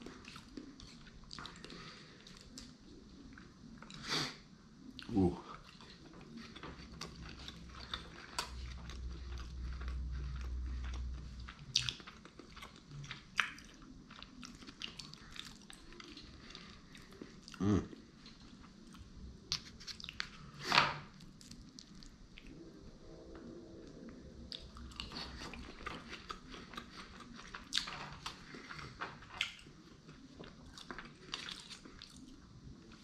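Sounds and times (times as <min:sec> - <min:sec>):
chewing sushi with crunches: 0:00.0 - 0:22.6, 0:23.9 - 0:33.0.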